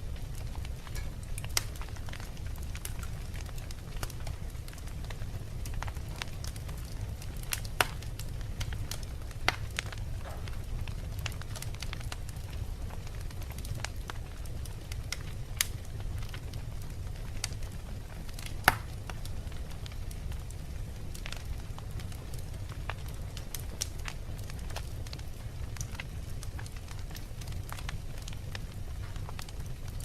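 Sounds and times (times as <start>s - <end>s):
logs crackling and popping: 0.0s - 30.0s
low rumble of flames: 0.0s - 30.0s.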